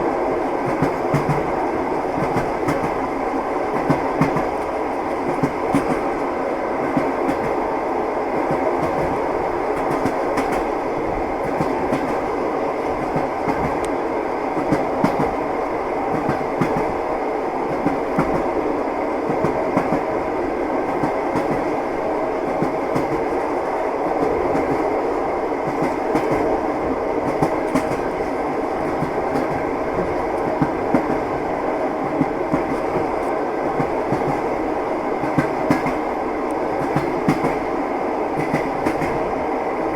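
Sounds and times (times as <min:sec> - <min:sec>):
train wheels clattering on rails: 0:00.0 - 0:37.7, 0:38.3 - 0:39.4.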